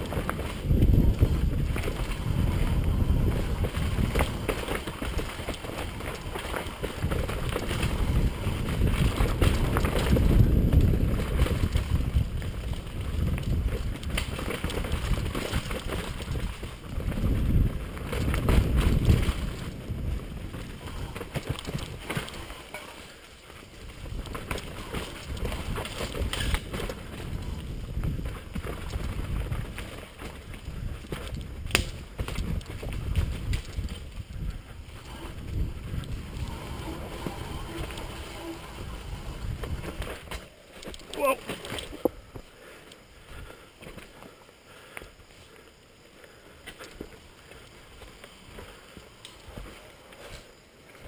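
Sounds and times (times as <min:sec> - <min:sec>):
wind buffeting microphone: 0:00.0 - 0:22.6, 0:23.5 - 0:43.8
bike rattling and clattering: 0:00.0 - 0:51.0
bike tyres rolling over rocks: 0:00.0 - 0:51.0.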